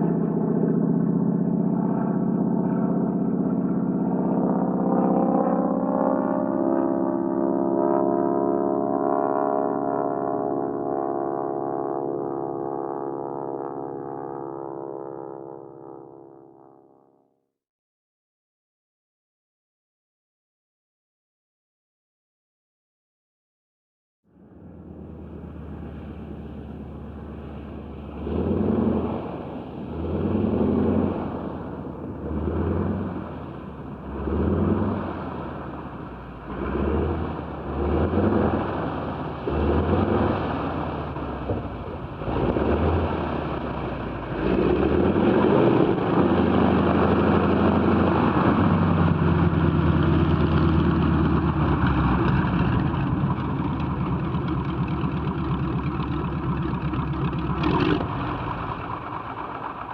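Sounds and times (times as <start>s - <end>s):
radial aircraft engine running: 0.0s - 17.1s, 24.3s - 59.9s.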